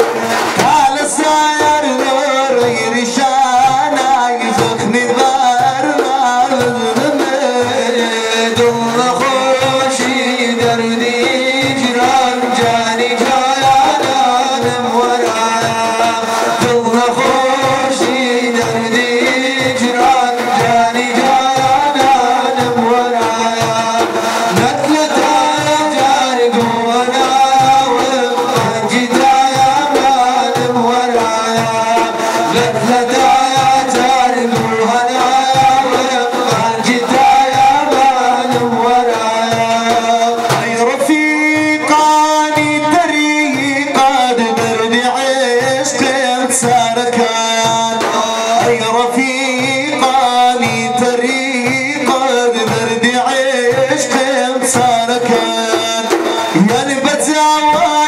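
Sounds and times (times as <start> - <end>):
frame drums beating: 0.0 - 58.0
men singing devotional song: 0.0 - 58.0.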